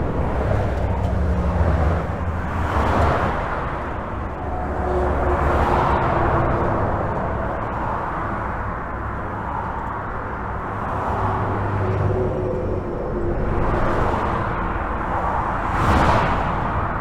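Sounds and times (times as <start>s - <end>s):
highway traffic tyre rush: 0.0s - 17.0s.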